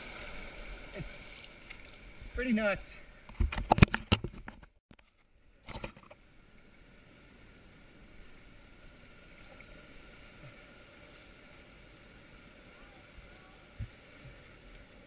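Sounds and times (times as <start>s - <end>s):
faint water noise: 0.0s - 15.0s.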